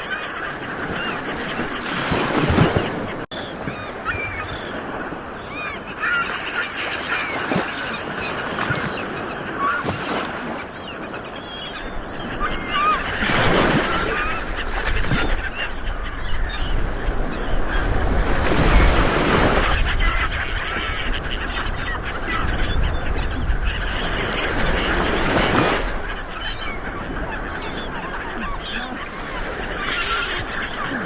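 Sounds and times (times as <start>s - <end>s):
birds calling: 0.0s - 31.0s
ocean waves rolling onto shore: 0.0s - 31.0s.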